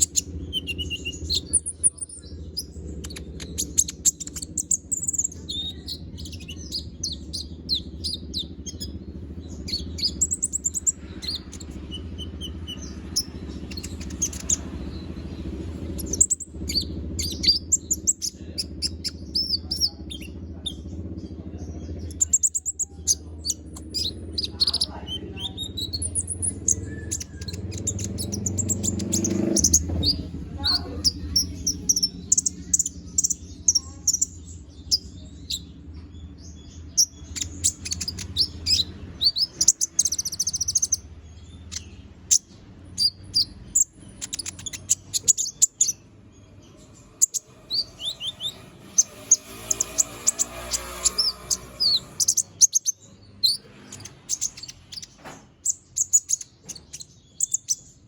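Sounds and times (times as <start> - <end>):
steady low hum: 0.0 - 57.8
bird chirping and trilling: 0.0 - 58.0.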